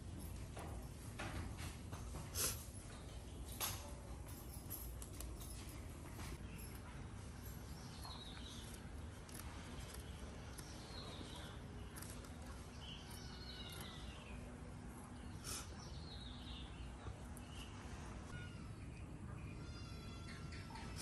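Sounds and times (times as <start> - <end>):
small birds chirping: 2.4 - 21.0.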